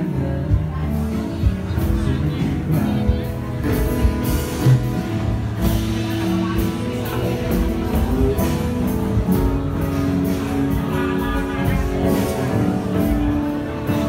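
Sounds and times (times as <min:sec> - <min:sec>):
drum kit: 0:00.0 - 0:14.0
electric guitar: 0:00.0 - 0:14.0.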